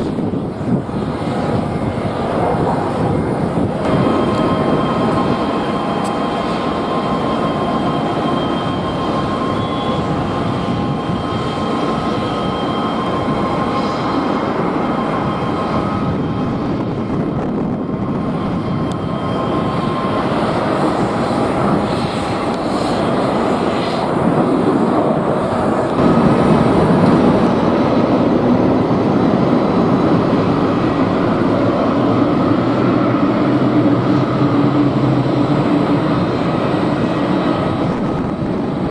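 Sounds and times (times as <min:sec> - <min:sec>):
jet engine turbine whine: 0:00.0 - 0:38.9
strong wind: 0:00.0 - 0:38.9.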